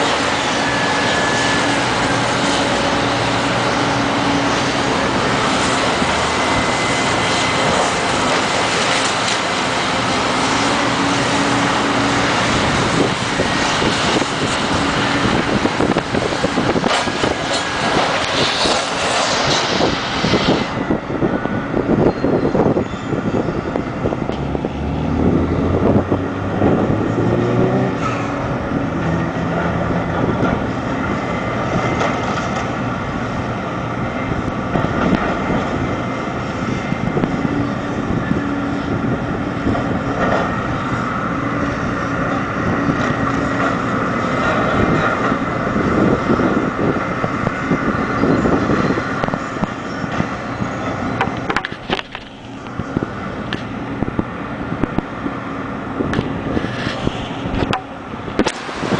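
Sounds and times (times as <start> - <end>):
excavator diesel engines revving: 0.0 - 58.9.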